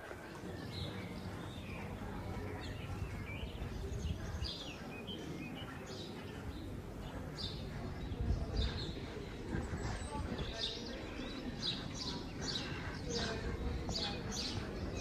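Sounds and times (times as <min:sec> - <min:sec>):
low street rumble: 0:00.0 - 0:15.0
small birds chirping: 0:00.0 - 0:15.0.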